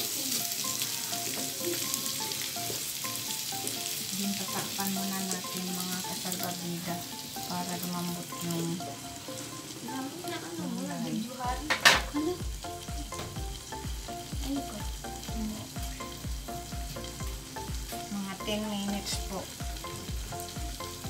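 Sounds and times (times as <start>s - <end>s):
background music: 0.0s - 21.0s
food sizzling in a wok: 0.0s - 21.0s.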